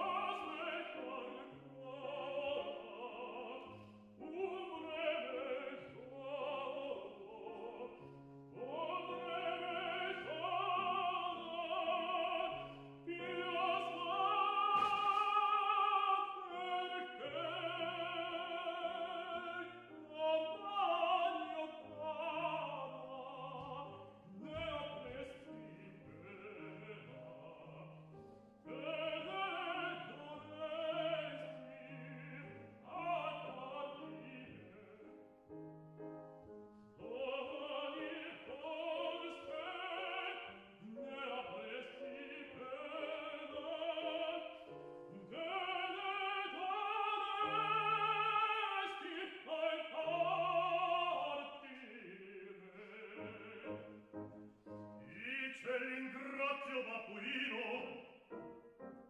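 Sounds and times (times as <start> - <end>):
operatic solo singing: 0.0 - 28.0, 28.6 - 35.3, 37.0 - 54.0
grand piano: 0.0 - 59.0.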